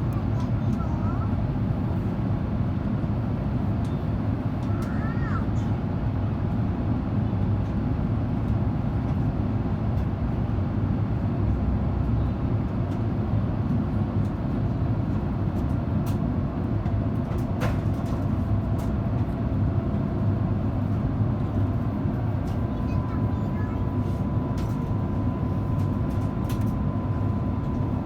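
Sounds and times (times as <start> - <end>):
deep rumble of jet engines: 0.0 - 28.0.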